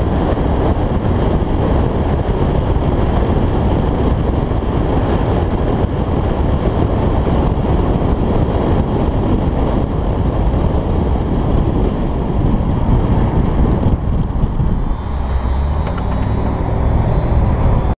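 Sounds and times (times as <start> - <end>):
car engine exhaust: 0.0 - 18.0
wind and road noise: 0.0 - 18.0.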